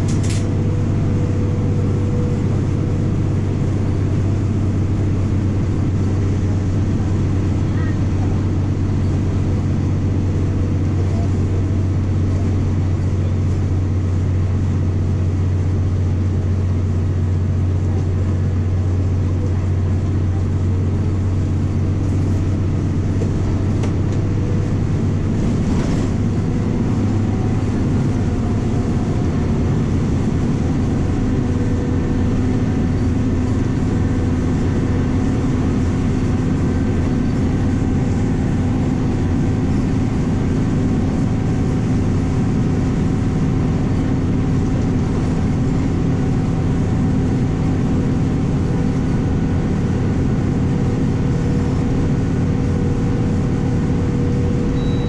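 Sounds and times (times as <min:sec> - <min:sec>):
diesel bus engine drone: 0:00.0 - 0:55.0.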